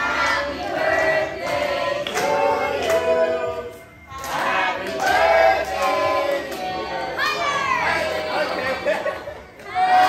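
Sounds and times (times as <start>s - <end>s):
voices singing together: 0.0s - 10.0s.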